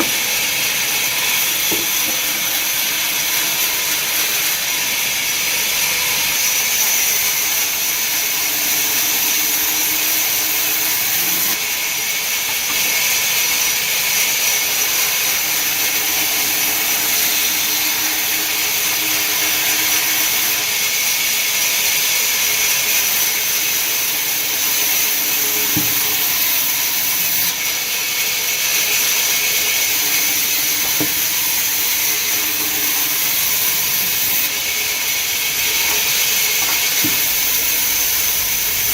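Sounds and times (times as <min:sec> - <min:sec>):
wood-cutting machinery hissing: 0:00.0 - 0:38.9.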